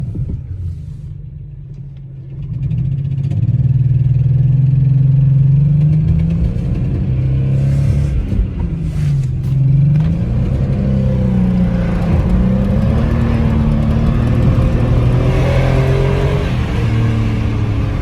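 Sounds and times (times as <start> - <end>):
engine ticking noise: 0.0 - 18.0
car engine revving: 1.8 - 18.0.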